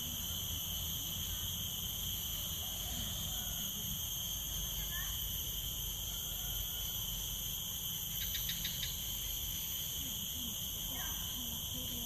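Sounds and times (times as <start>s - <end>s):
insect chirps: 0.0s - 12.0s
insects droning: 0.0s - 12.0s.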